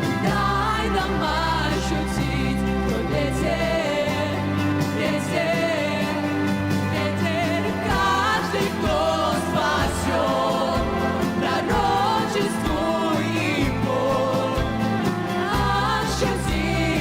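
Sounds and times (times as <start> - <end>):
instrumental backing music: 0.0 - 17.0
people singing with vibrato: 0.0 - 17.0.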